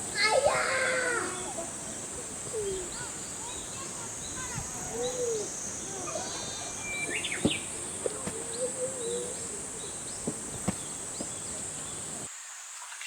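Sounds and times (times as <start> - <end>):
birds chirping: 0.0 - 12.3
high insect buzz: 0.0 - 12.3.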